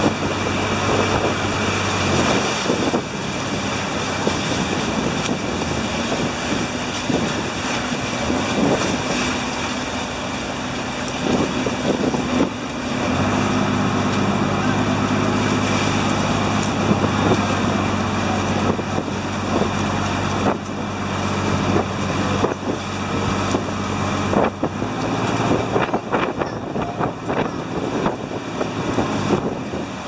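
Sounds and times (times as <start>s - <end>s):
boat engine running: 0.0s - 30.0s
water rushing along hull: 0.0s - 30.0s
water sloshing: 0.0s - 30.0s
wind on microphone: 0.0s - 30.0s.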